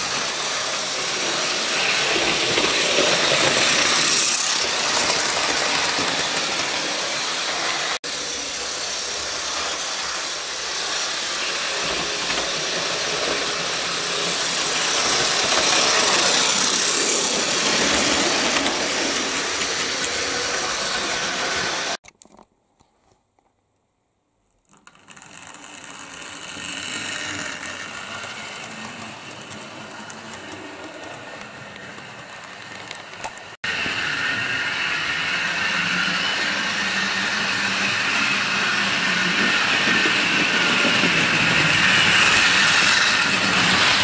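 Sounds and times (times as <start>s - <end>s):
model trains whirring and rattling: 0.0s - 22.0s, 24.6s - 44.0s.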